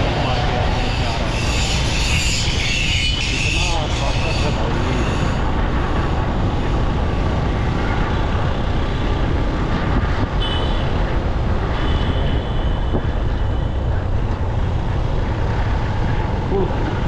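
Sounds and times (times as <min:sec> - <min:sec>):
motorcycle road noise: 0:00.0 - 0:17.0
wind rushing over microphone: 0:00.0 - 0:17.0.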